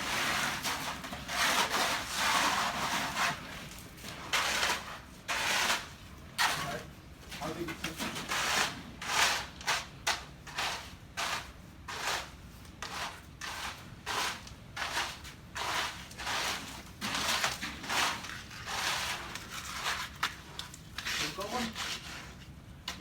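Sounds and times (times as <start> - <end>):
hand tool scraping gritty surface: 0.0 - 23.0.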